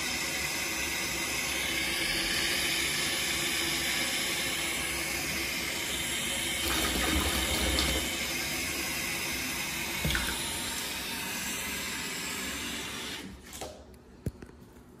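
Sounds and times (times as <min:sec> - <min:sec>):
faucet water pouring into tub: 0:00.2 - 0:13.8.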